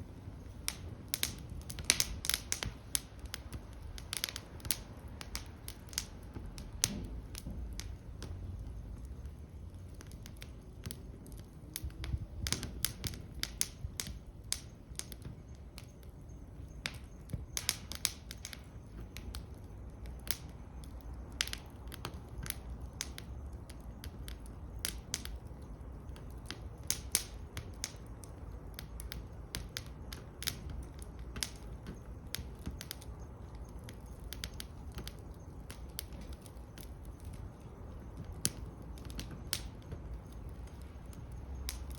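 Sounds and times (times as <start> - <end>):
low rumble of fire: 0.0 - 41.9
wood fire crackling and popping: 0.0 - 41.9.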